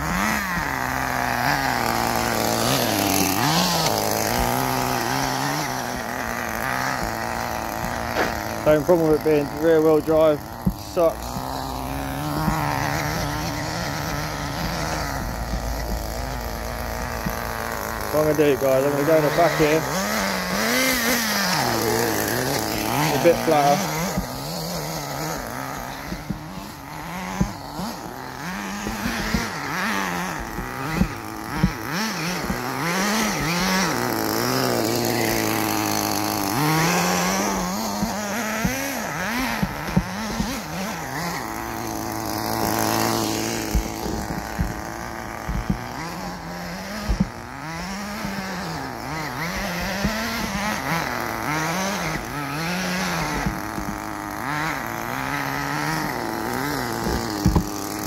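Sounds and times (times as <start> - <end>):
small nitro engine revving: 0.0 - 58.0.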